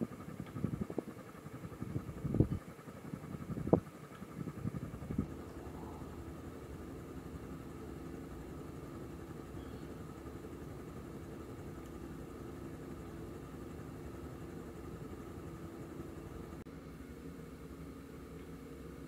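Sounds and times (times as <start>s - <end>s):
ceiling fan motor hum: 0.0s - 19.0s.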